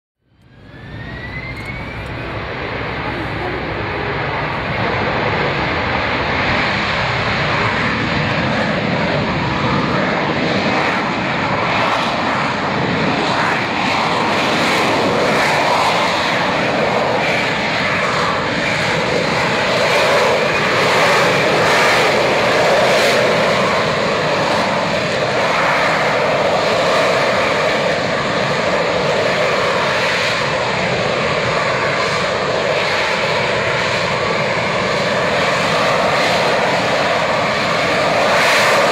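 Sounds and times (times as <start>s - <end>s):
jet engine roaring at high power: 0.2s - 38.9s.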